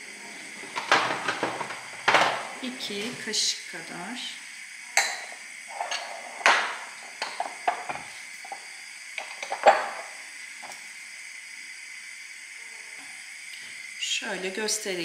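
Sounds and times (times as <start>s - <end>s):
sauce sizzling: 0.0s - 15.0s.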